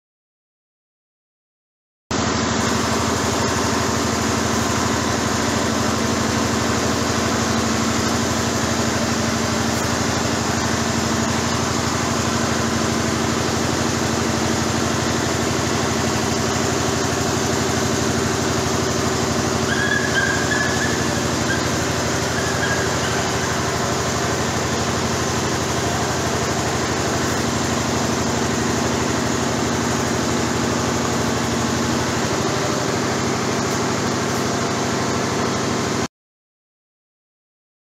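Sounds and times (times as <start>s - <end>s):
small engine machinery droning: 2.1s - 36.1s.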